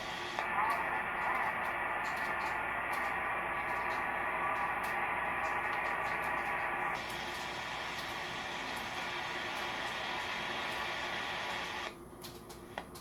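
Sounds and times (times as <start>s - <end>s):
radio static and hiss: 0.0s - 11.9s
faint steady tones: 0.0s - 13.0s.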